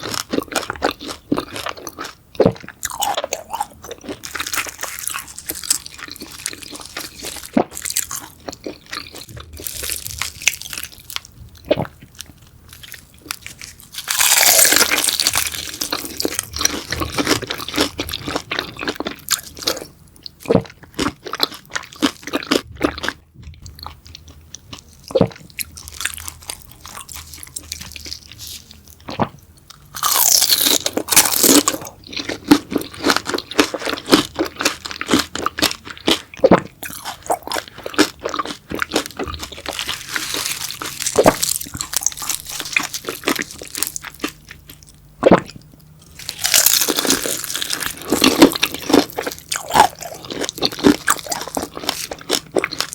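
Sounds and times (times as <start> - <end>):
chewing crunchy food: 0.0 - 52.9.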